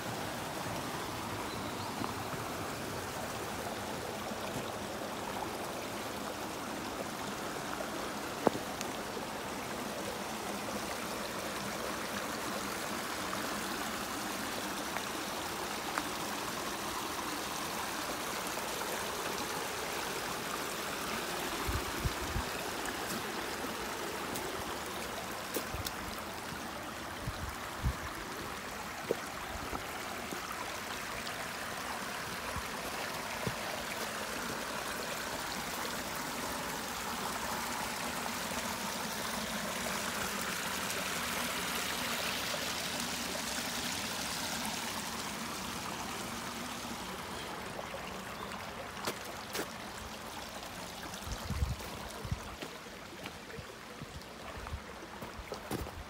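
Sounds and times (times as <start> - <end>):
brook babbling over rocks: 0.0 - 56.0.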